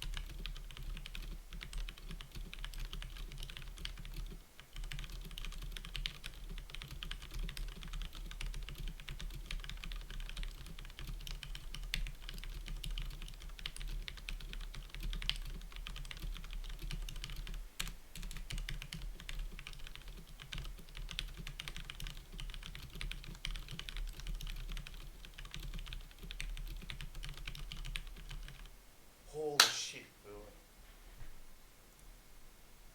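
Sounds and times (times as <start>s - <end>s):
fast typing on mechanical keyboard: 0.0s - 28.7s.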